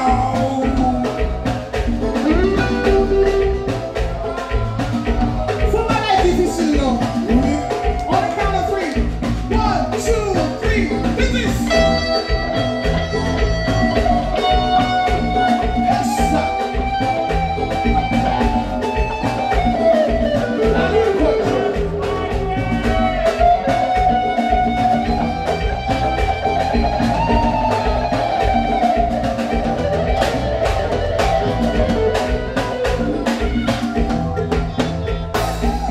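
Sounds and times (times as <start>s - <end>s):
bass and drums: 0.0s - 35.9s
electric guitar solo: 0.0s - 35.9s.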